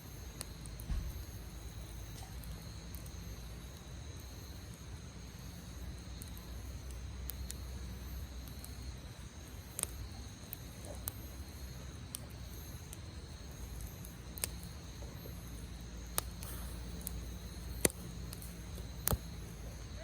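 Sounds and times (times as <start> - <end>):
campfire crackling and popping: 0.0 - 20.0
crickets chirping: 0.0 - 20.0.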